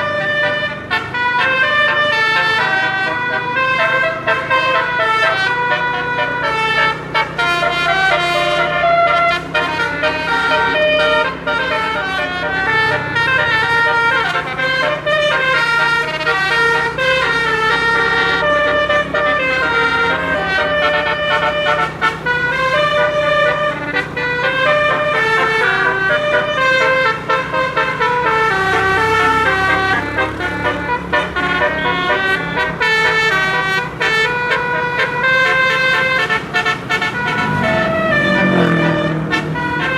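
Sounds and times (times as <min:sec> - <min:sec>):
air horn melody: 0:00.0 - 0:39.9.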